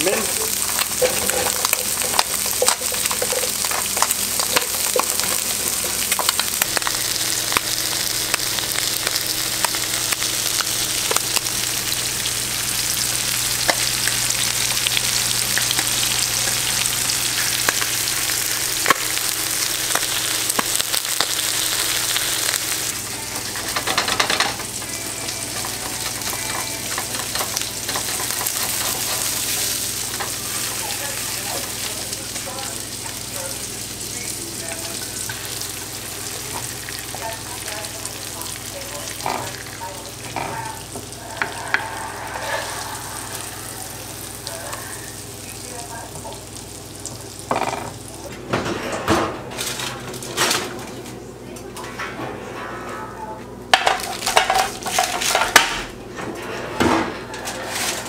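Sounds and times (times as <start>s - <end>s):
food sizzling in a pan: 0.0s - 48.3s.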